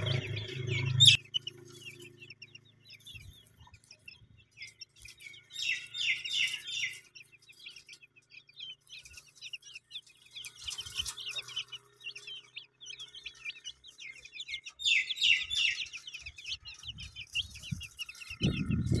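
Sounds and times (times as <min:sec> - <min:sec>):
baby chicks peeping: 0:00.0 - 0:19.0.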